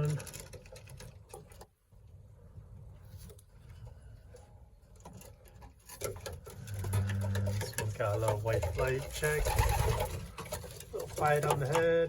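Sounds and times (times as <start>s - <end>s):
faint scratching and rustling: 0.0s - 12.0s.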